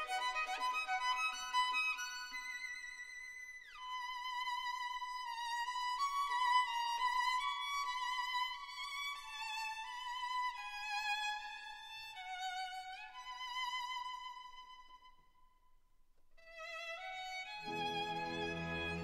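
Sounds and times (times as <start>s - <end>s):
solo violin slow melody: 0.0s - 15.2s, 16.4s - 19.0s.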